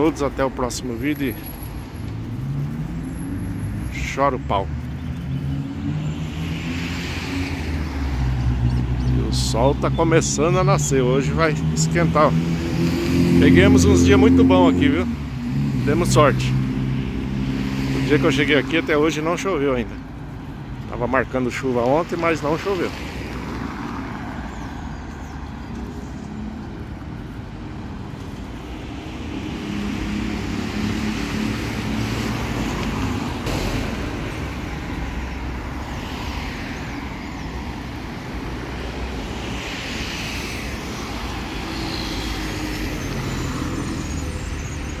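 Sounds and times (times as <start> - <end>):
cars passing: 0.0 - 45.0
rumble of engines and tyres: 0.0 - 45.0.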